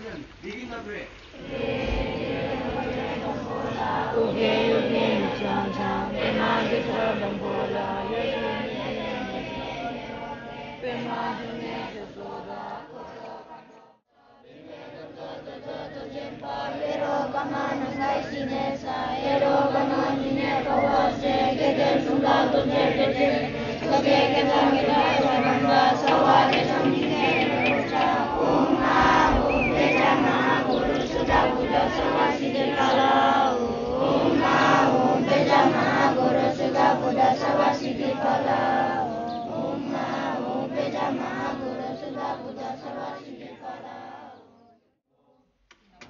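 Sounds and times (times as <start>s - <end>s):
children chanting in unison: 1.3s - 45.3s.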